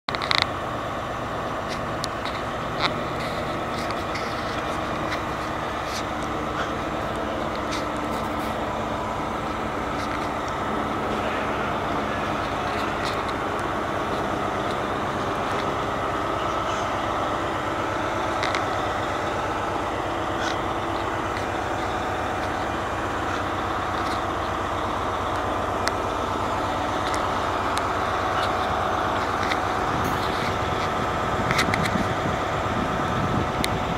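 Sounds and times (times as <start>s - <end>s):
diesel locomotive engine running: 0.1s - 33.9s.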